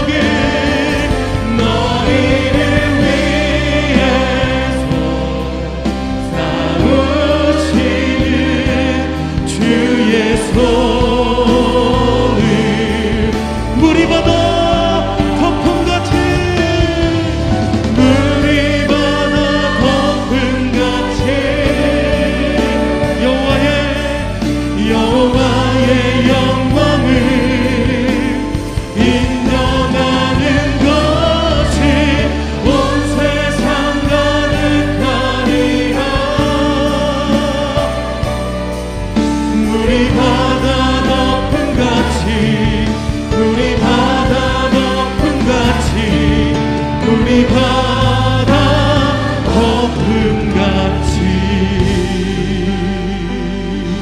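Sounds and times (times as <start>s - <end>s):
amplified singers: 0.0s - 54.0s
band with keyboards and drums: 0.0s - 54.0s.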